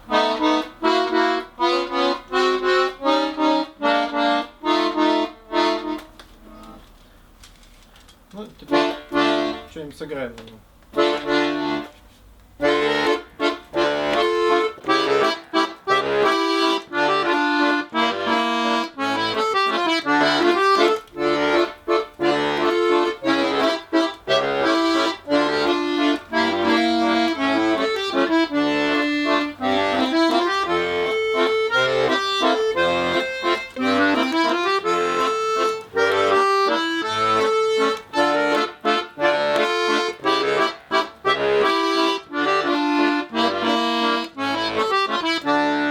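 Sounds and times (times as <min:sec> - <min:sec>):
button accordion melody: 0:00.0 - 0:06.8, 0:08.6 - 0:09.8, 0:10.9 - 0:45.9.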